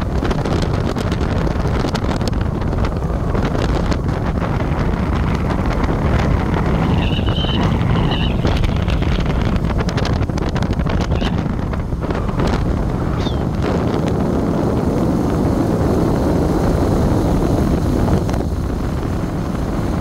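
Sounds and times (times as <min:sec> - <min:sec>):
vehicle road and engine noise: 0:00.0 - 0:20.0
wind buffeting microphone: 0:00.0 - 0:20.0.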